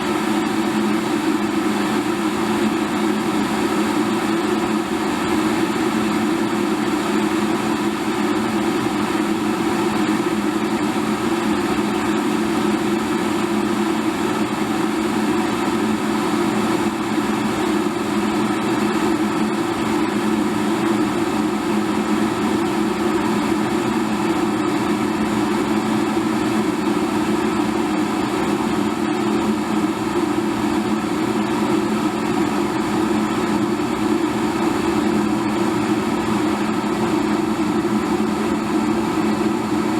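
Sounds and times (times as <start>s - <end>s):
electric kettle boiling water: 0.0s - 39.9s.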